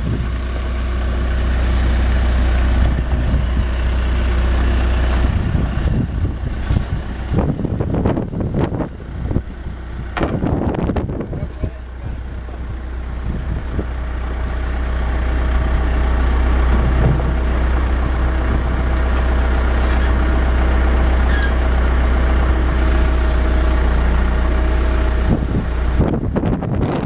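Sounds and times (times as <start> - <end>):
backhoe engine running: 0.0 - 27.0.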